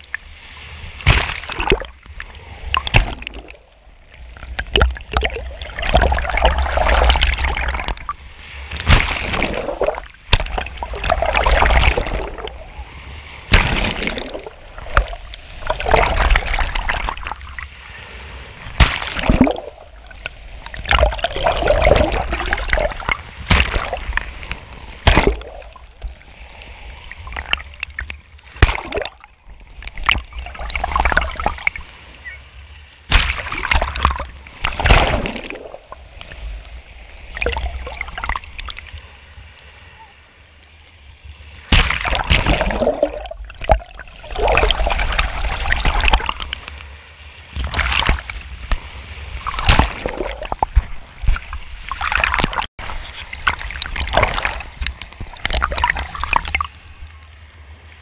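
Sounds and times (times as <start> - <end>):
small waves breaking: 0.0 - 58.0
water slapping camera: 0.9 - 12.8, 13.4 - 17.7, 18.6 - 32.0, 33.1 - 36.5, 41.7 - 46.8, 47.5 - 56.8.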